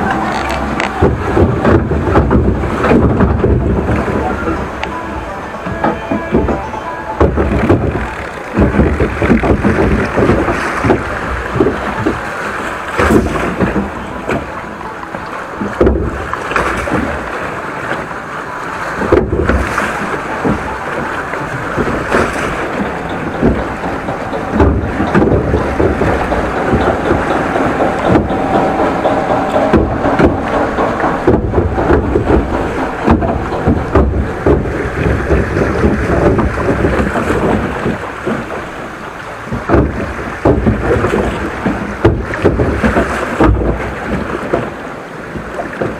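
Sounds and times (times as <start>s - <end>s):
water rushing and splashing: 0.0s - 45.9s.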